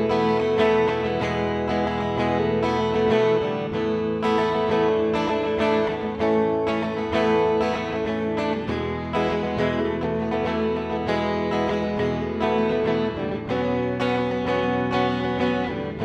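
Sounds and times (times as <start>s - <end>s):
guitar chords: 0.0s - 16.0s.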